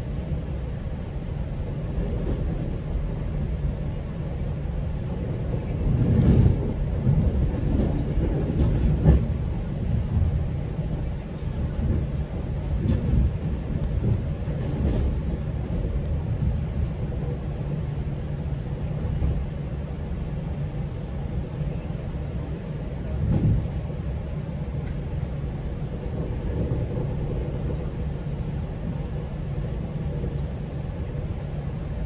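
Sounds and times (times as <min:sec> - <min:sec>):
train rumbling along track: 0:00.0 - 0:32.0.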